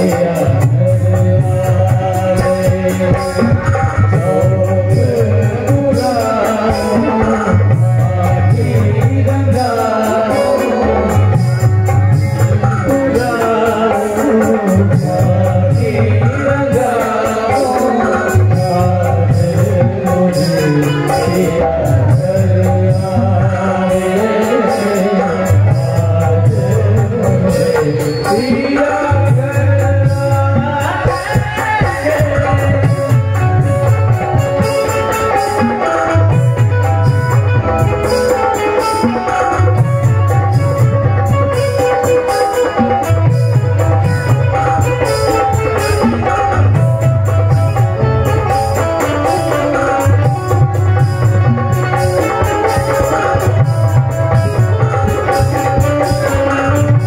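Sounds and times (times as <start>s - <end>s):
hand drums playing: 0.0s - 57.0s
man singing: 0.0s - 57.0s.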